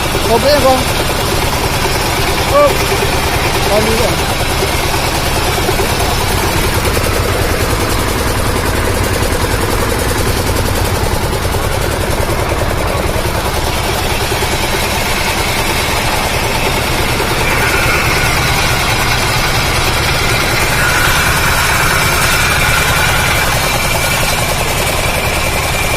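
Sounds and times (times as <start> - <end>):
high steady whine: 0.0 - 25.9
hydraulic machine engine running: 0.0 - 25.9.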